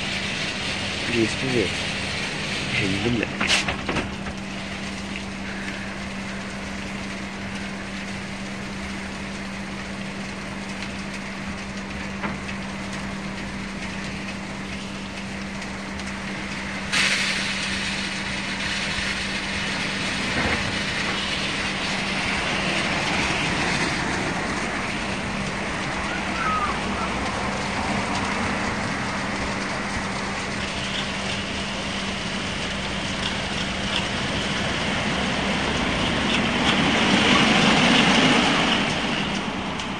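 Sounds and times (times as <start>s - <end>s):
car wash machine hum: 0.0s - 39.9s.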